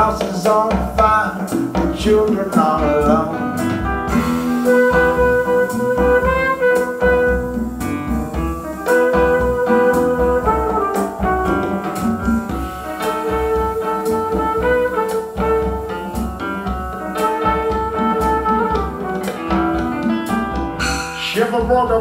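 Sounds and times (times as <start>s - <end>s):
bass: 0.0s - 22.0s
drums: 0.0s - 22.0s
piano chords: 1.6s - 21.3s.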